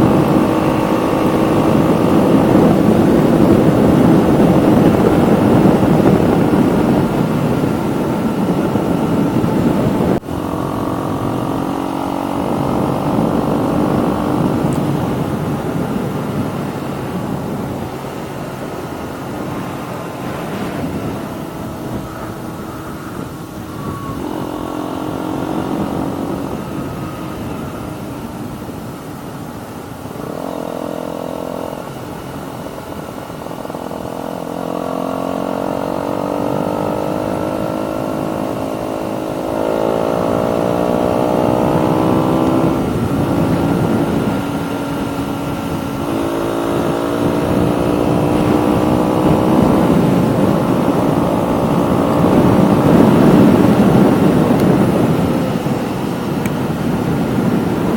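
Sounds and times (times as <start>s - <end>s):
motorcycle engine revving through gears: 0.0s - 57.9s.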